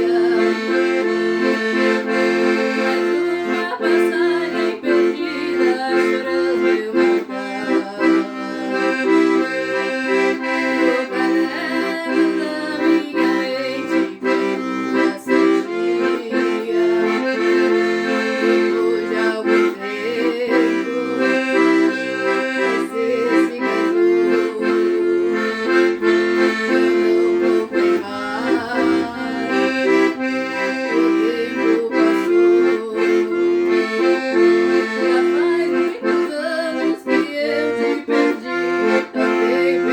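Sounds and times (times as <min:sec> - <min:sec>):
accordion music with regular beat: 0:00.0 - 0:39.9.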